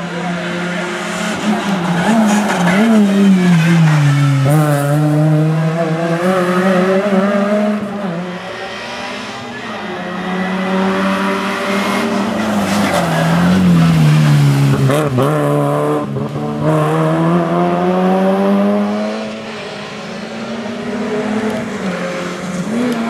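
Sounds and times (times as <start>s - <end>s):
rally car revving past: 0.6s - 23.0s.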